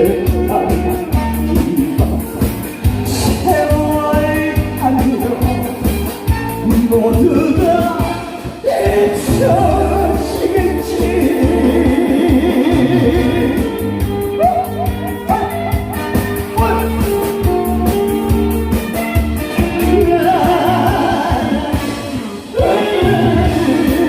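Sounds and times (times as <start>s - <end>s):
person singing with vibrato: 0.0s - 2.3s, 3.0s - 5.9s, 6.5s - 17.2s, 19.5s - 24.0s
guitar: 0.0s - 24.0s
steady beat: 0.0s - 24.0s.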